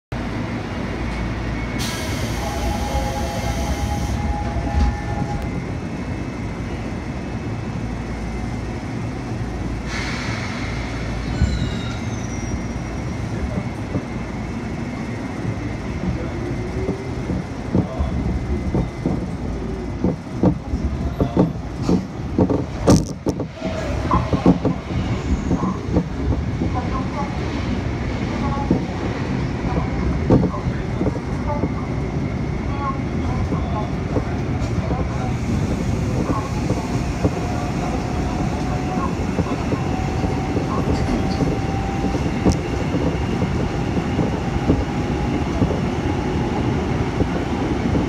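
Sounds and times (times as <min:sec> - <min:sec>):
train running rumble: 0:00.2 - 0:48.0.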